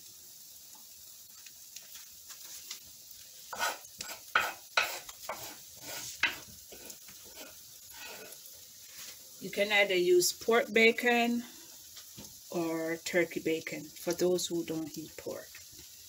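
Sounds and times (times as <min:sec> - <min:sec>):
omelette frying with faint hiss: 0:00.0 - 0:16.0.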